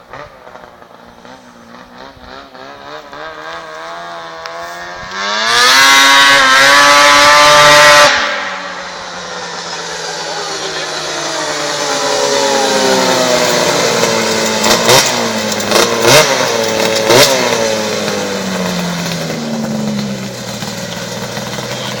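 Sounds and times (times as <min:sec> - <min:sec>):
snowmobile engine driving past: 0:00.0 - 0:22.0.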